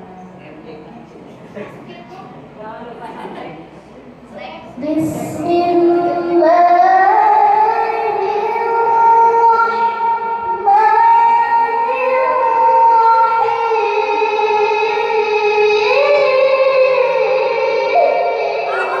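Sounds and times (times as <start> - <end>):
girl reciting melodically: 3.7 - 19.0.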